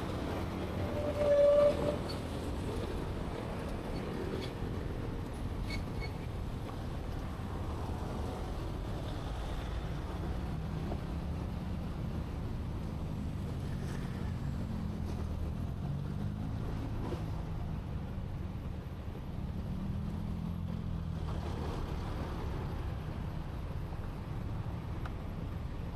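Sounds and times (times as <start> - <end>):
street traffic hum: 0.0 - 25.9.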